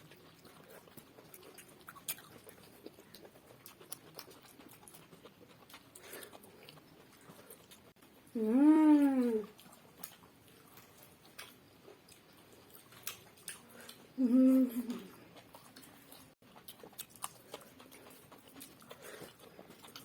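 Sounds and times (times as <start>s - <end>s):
soft chewing and mouth smacks: 0.0s - 20.0s.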